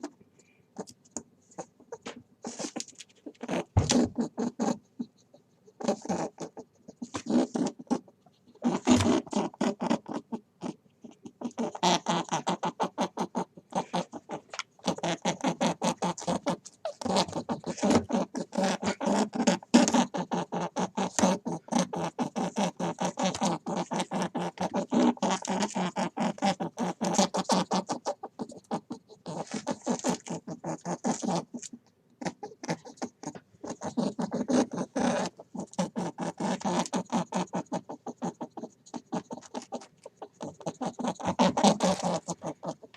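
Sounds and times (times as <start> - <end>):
animal calling in pulses: 1.5 - 42.9.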